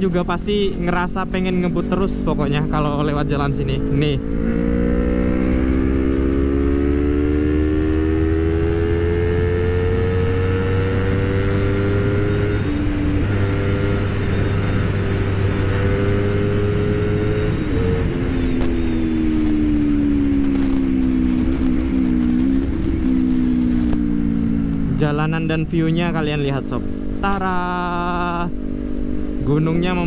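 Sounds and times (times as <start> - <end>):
motorcycle engine at high speed: 0.0 - 30.0.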